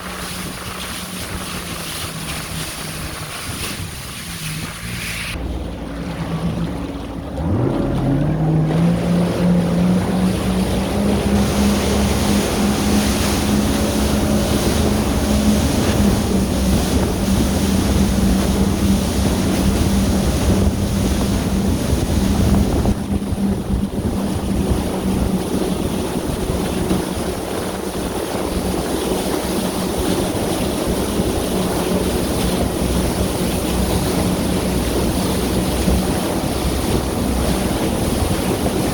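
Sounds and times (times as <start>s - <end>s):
jet ski engine: 0.0s - 38.9s
water rushing: 0.0s - 38.9s
wind buffeting microphone: 0.0s - 38.9s.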